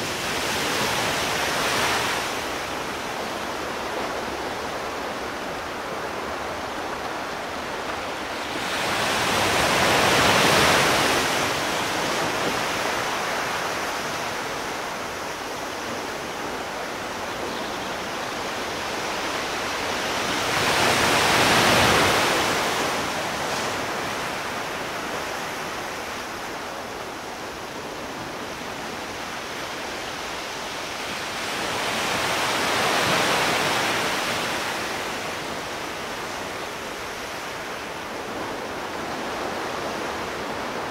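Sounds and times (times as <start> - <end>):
sea waves breaking: 0.0 - 17.5, 18.1 - 40.9.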